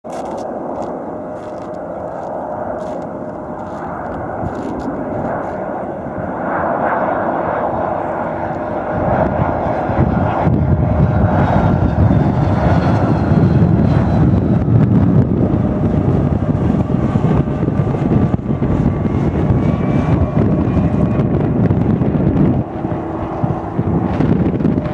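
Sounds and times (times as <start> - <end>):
airliner jet engines approaching: 0.1 - 24.9.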